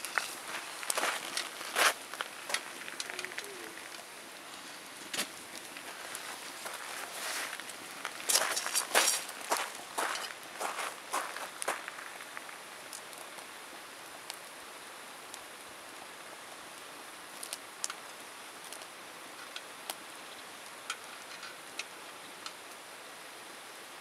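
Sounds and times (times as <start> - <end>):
campfire pops and crackles: 0.0 - 22.9
fire soft hiss: 0.0 - 24.0.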